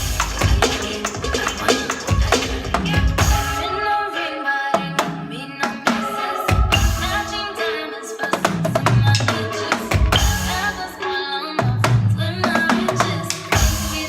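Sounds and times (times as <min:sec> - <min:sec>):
music with drum-kit beat: 0:00.0 - 0:03.8, 0:04.8 - 0:07.6, 0:08.2 - 0:14.0.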